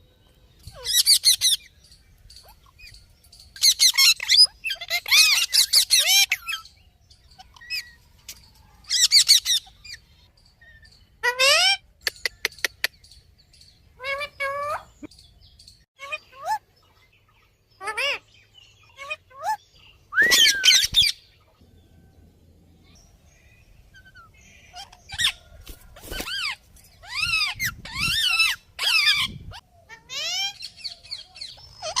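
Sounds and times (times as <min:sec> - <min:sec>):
budgerigars chirping and warbling: 0:00.2 - 0:21.6, 0:22.8 - 0:32.0.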